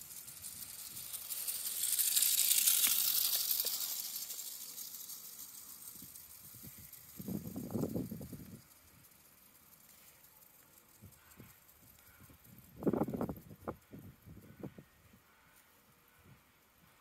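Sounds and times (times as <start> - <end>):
clockwork motor whirring: 0.0 - 13.8.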